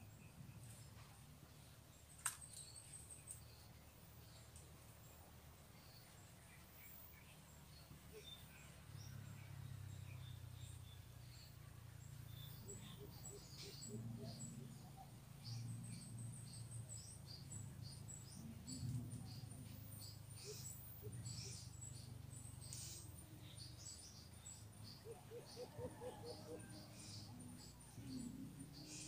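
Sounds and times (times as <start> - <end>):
birds chirping: 0.0 - 29.0
low evenly spaced bird notes: 0.0 - 29.0.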